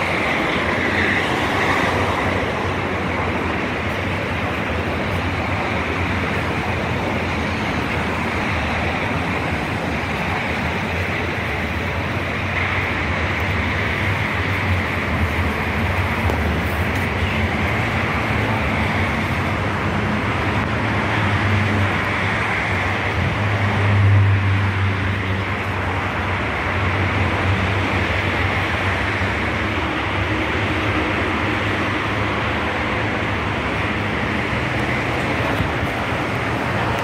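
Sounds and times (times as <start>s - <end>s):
urban background rumble: 0.0s - 37.0s.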